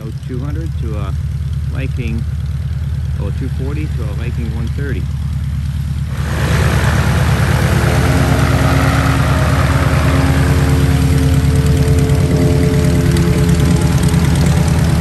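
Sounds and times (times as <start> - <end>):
light plane engine taxiing: 0.0 - 15.0.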